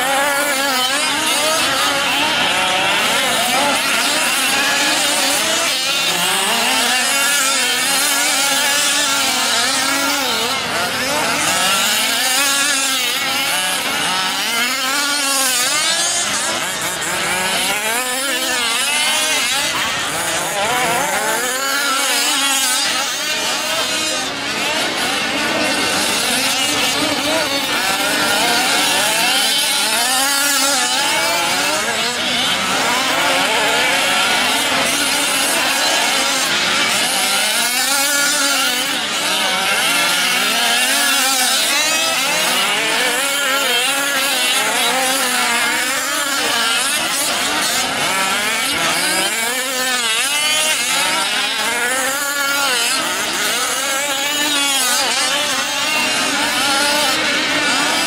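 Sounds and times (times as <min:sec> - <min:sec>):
rc truck engines revving: 0:00.0 - 0:58.0.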